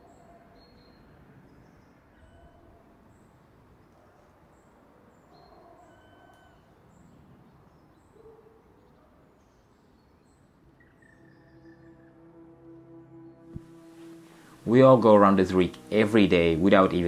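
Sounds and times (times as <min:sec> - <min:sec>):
faint birdsong: 0:00.0 - 0:17.0
low background noise: 0:00.0 - 0:17.0.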